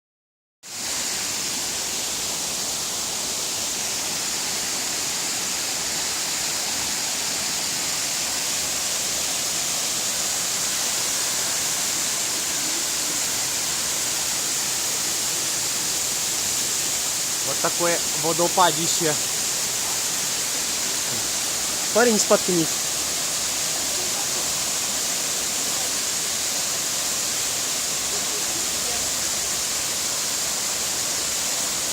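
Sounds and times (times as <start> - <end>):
waterfall roaring: 0.8 - 31.9.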